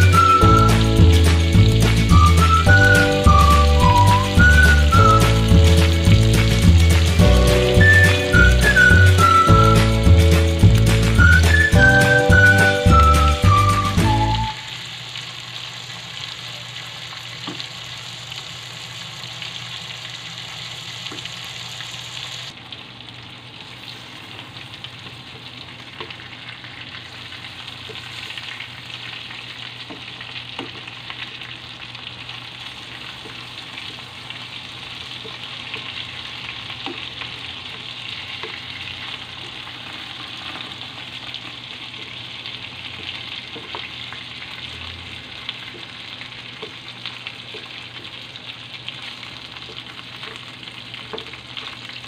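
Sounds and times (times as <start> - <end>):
meat sizzling in oil: 0.0 - 52.0.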